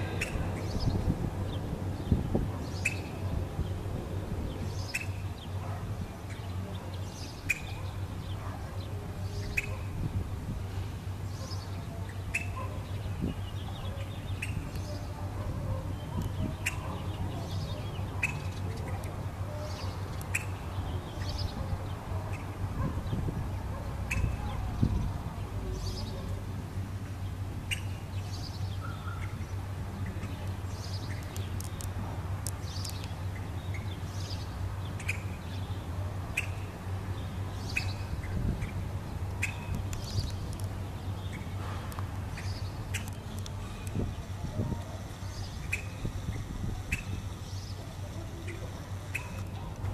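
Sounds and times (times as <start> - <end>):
birds chirping: 0.0 - 49.9
steady low hum: 0.0 - 49.9.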